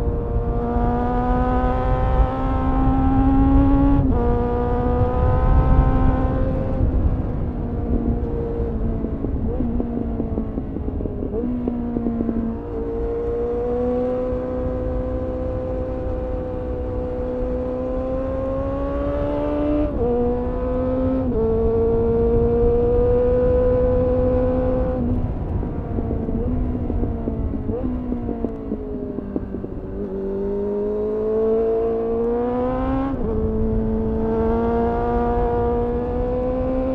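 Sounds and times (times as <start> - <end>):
motorcycle engine revving high: 0.0 - 36.9
wind rumble on microphone: 0.0 - 36.9.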